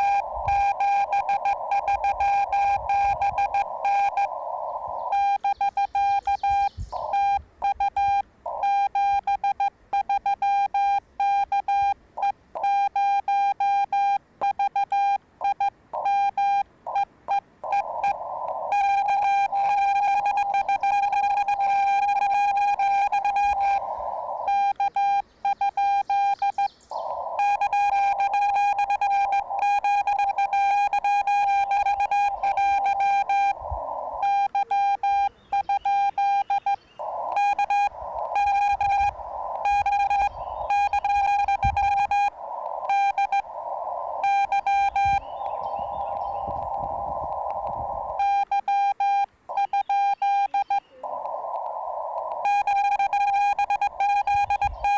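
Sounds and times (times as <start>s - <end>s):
radio band hiss: 0.0s - 12.9s, 15.3s - 54.9s
morse code tone: 0.0s - 51.3s, 52.1s - 54.9s.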